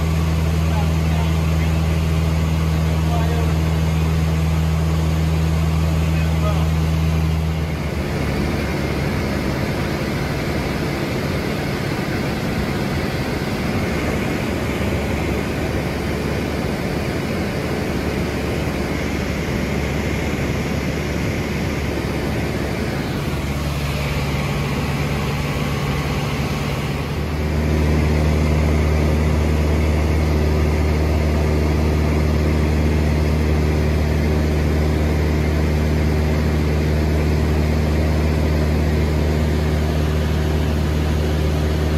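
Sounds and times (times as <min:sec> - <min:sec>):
aircraft engine and propeller droning: 0:00.0 - 0:41.9.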